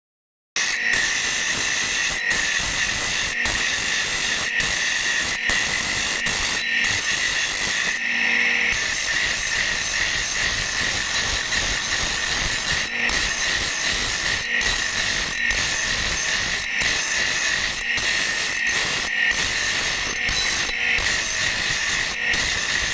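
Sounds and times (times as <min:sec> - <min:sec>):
grinding wheel grinding metal: 0:00.6 - 0:22.9.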